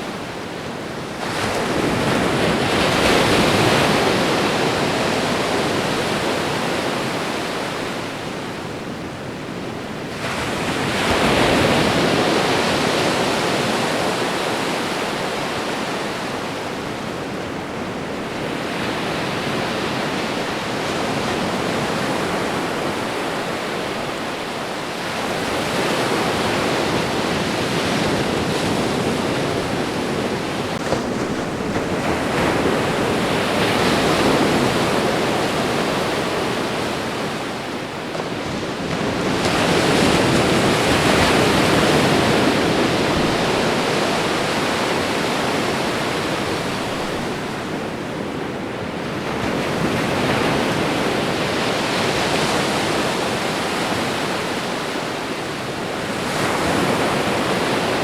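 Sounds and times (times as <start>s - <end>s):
ocean surf washing onto shore: 0.0s - 58.0s.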